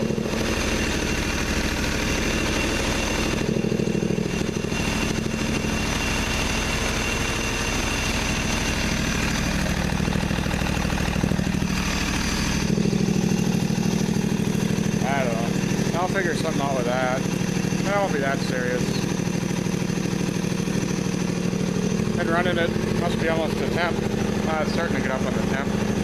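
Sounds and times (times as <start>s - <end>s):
garden tractor engine idling: 0.0s - 26.0s.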